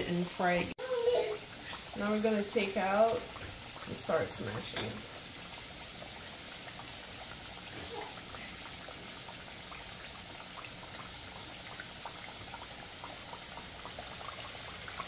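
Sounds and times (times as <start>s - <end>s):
plantain slices frying in oil: 0.0s - 15.0s.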